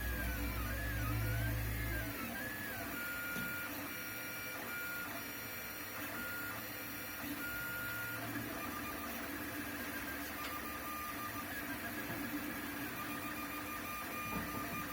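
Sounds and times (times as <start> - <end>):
printer mechanical hum: 0.0 - 14.9.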